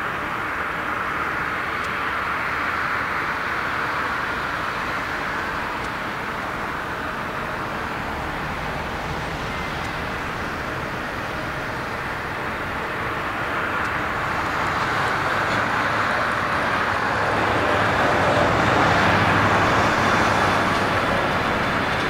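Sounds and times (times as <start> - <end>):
airliner jet engines rushing: 0.0 - 22.0.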